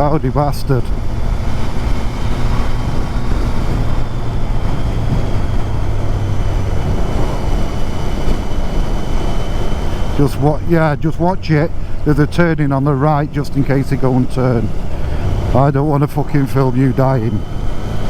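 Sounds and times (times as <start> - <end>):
motorcycle engine cruising: 0.0 - 18.0
wind and road rush: 0.0 - 18.0.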